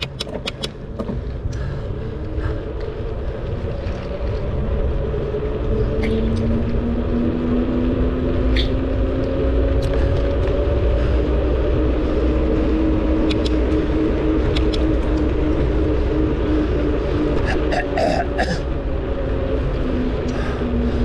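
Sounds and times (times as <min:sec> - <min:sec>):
steady hum: 0:00.0 - 0:21.0
wind rumbling on microphone: 0:00.0 - 0:21.0.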